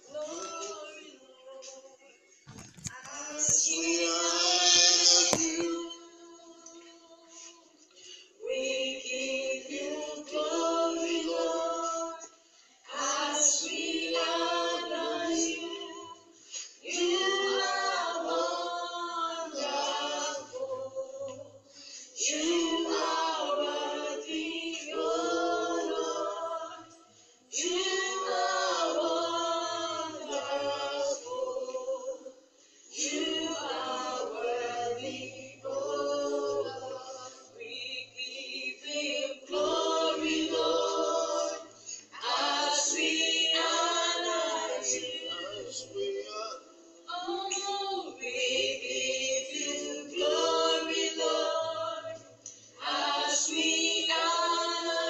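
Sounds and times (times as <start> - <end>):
group of voices singing: 0.0 - 2.1, 3.0 - 55.0.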